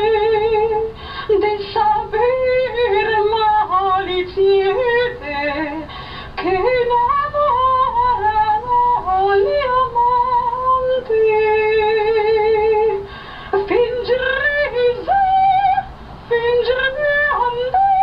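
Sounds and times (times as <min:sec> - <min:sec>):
woman singing slow melody: 0:00.0 - 0:18.0.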